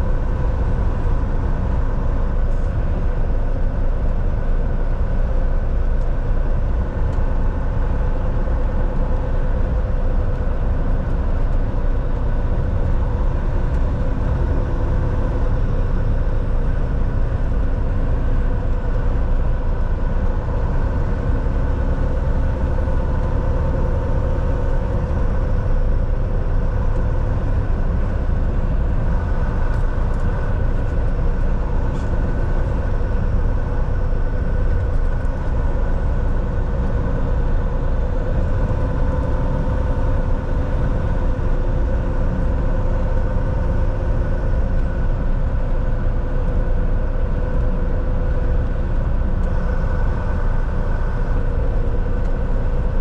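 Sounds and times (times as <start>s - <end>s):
deep road rumble: 0.0s - 53.0s
truck engine drone: 0.0s - 53.0s.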